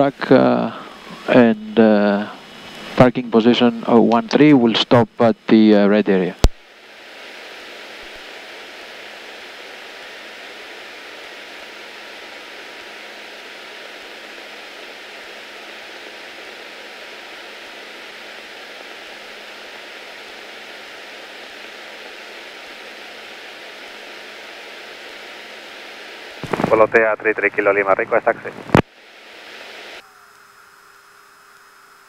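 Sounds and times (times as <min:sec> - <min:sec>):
steady intercom hiss: 0:00.0 - 0:32.0.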